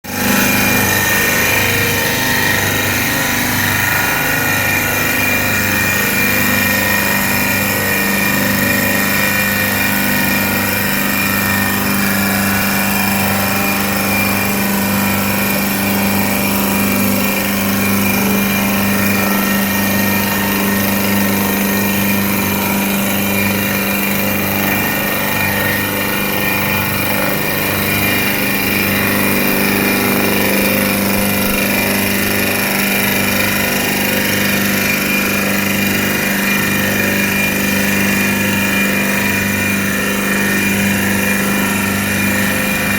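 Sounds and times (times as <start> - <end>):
high whining tones: 0.0 - 35.4
lathe machine hum: 0.0 - 42.9.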